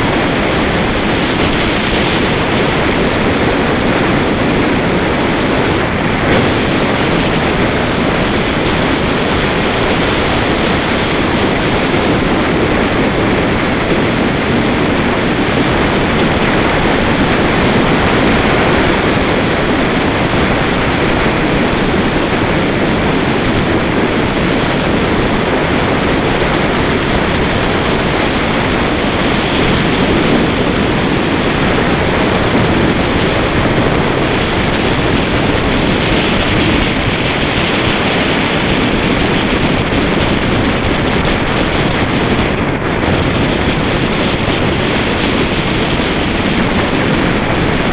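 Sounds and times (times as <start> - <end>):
tyre road noise on asphalt: 0.0 - 47.9
wind rush over microphone: 0.0 - 47.9.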